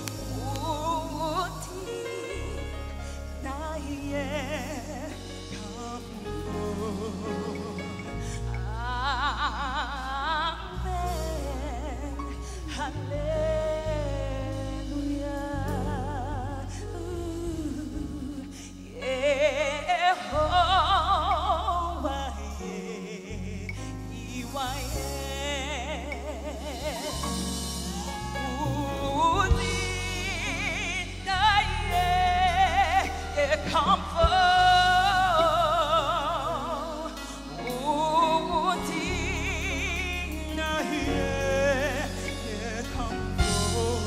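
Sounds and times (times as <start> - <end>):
gospel vocal without words: 0.0 - 44.0
live band bass notes: 0.0 - 44.0.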